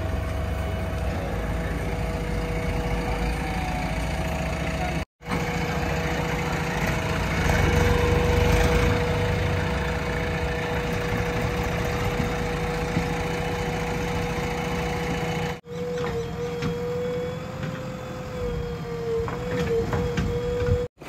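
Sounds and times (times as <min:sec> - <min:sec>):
tractor pulling away: 0:00.0 - 0:20.9
backhoe loader diesel engine: 0:00.0 - 0:21.0.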